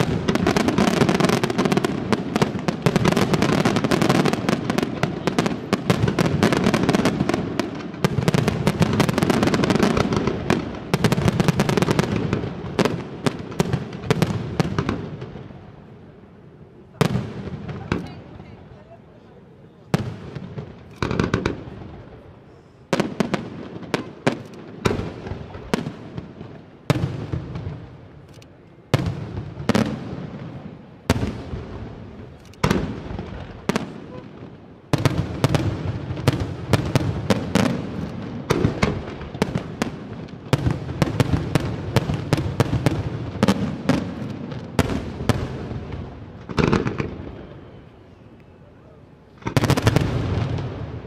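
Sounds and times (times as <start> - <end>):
firework crackle: 0.0 - 16.2, 19.8 - 48.6, 49.3 - 51.0.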